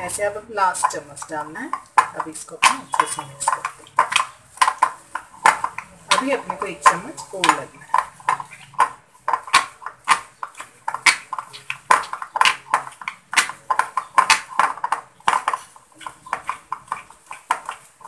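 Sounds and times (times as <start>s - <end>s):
spoon stirring paste in glass bowl: 0.0s - 18.0s.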